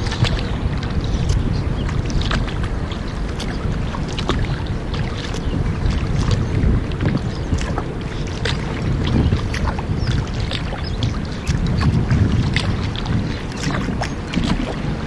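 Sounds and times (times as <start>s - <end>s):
paddle splashing: 0.0s - 15.0s
water drips and clicks: 0.0s - 15.0s
water rushing: 0.0s - 15.0s
wind: 0.0s - 15.0s.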